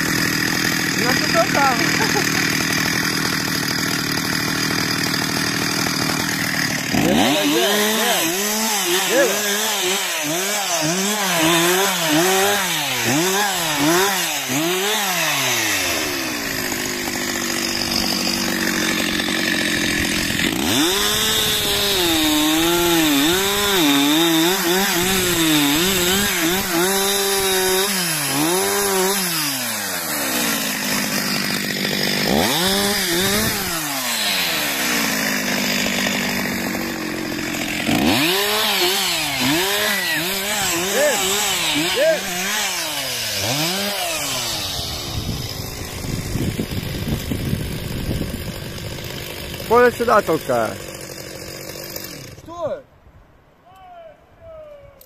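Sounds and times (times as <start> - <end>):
chainsaw cutting wood: 0.0 - 52.8.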